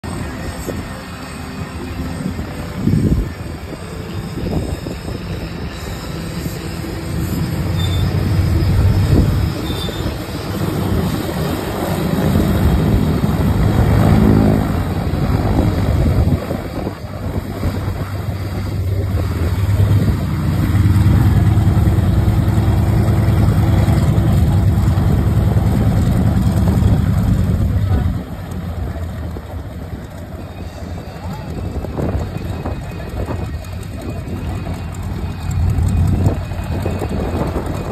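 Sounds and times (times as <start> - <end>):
radial aircraft engine droning: 0.0 - 37.9.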